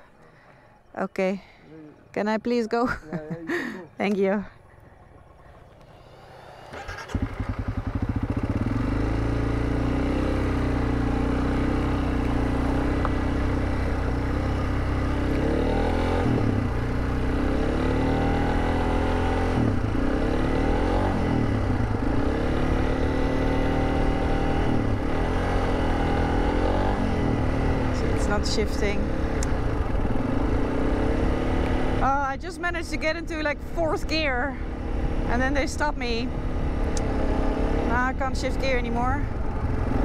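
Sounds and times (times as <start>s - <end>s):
motorcycle engine revving: 4.6s - 40.0s.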